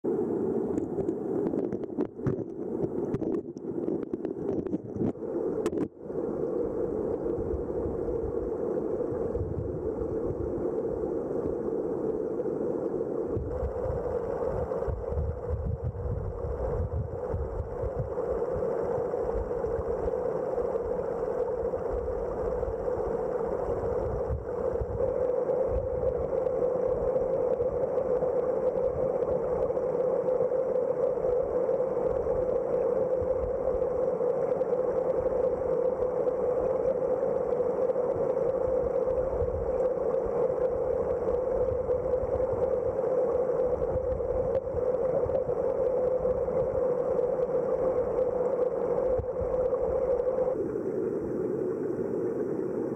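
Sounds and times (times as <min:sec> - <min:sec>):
underwater river current rushing: 0:00.1 - 0:52.9.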